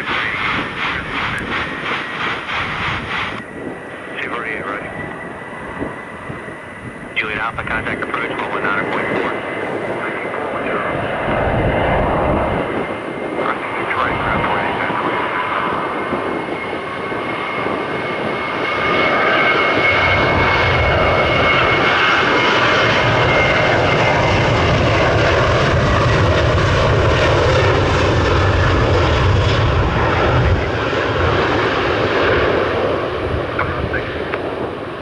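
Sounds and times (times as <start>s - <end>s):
jet engines passing: 0.0s - 35.0s.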